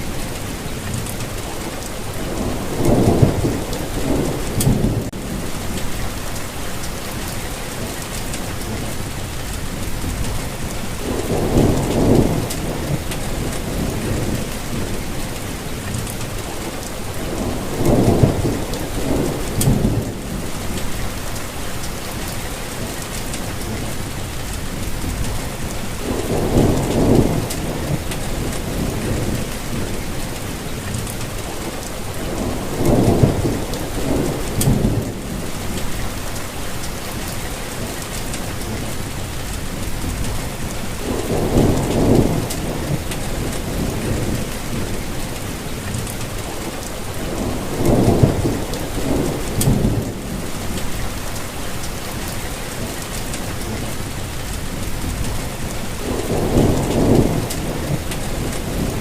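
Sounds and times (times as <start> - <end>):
low thunder rumbling: 0.0 - 7.3, 8.5 - 22.3, 23.5 - 37.4, 38.5 - 52.4, 53.5 - 59.0
steady rainfall: 0.0 - 59.0.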